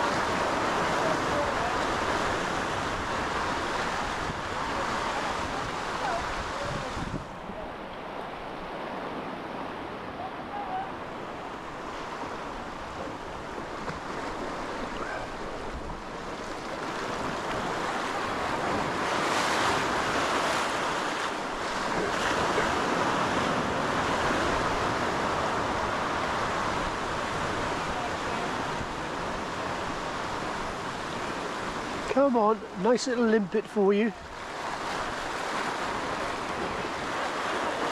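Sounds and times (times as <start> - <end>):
waves breaking on rocks: 0.0 - 37.9.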